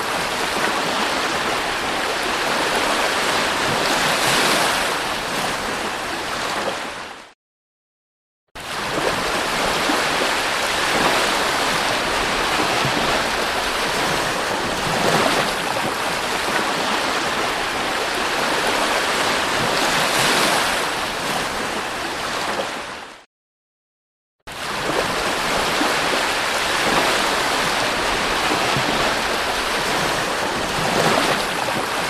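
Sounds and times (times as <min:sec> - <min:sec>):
waves breaking on the shore: 0:00.0 - 0:07.4, 0:08.6 - 0:23.3, 0:24.5 - 0:32.0.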